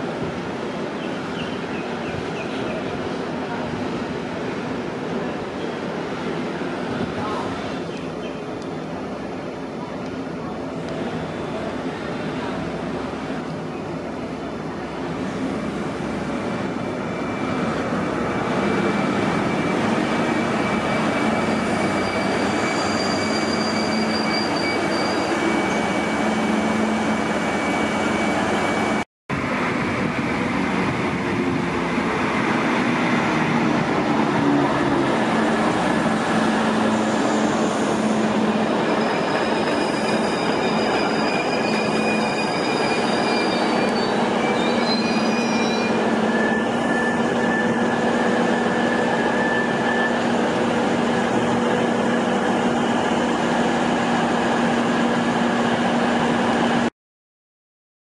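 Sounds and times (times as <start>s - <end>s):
trains rumbling on rails: 0.0s - 56.9s.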